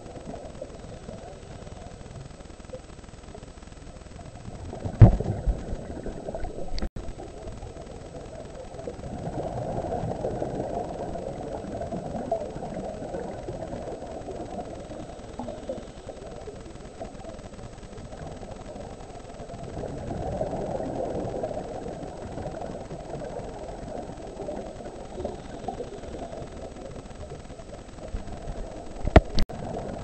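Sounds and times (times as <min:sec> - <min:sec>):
muffled underwater noise: 0:00.0 - 0:30.0.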